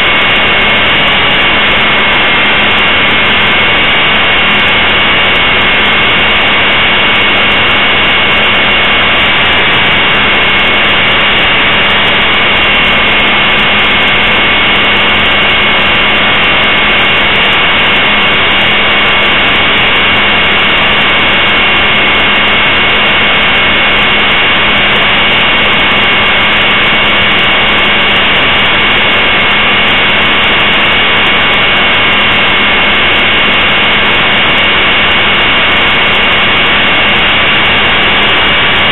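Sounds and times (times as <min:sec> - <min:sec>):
rc helicopter motor whine: 0:00.0 - 0:38.9.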